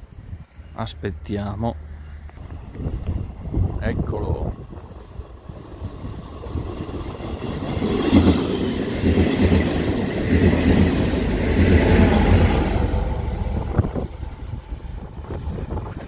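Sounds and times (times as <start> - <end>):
diesel train passing: 0.0 - 16.0.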